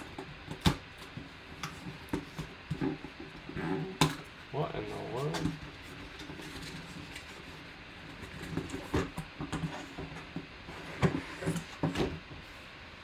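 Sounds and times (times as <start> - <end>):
cardboard box and plastic rustling: 0.0 - 12.5.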